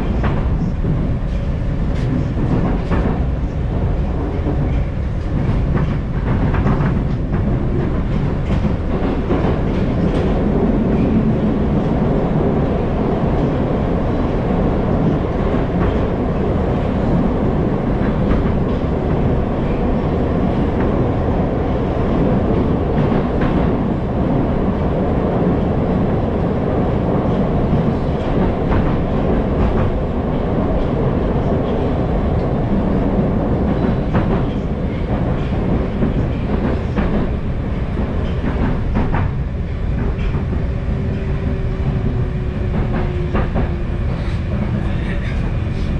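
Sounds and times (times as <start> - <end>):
metro train rumbling in tunnel: 0.0 - 45.9.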